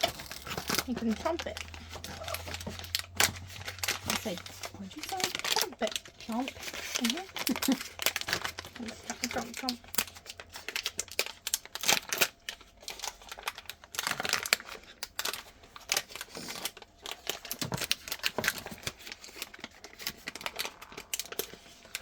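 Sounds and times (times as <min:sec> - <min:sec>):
wrappers rustling and crinkling: 0:00.0 - 0:22.0.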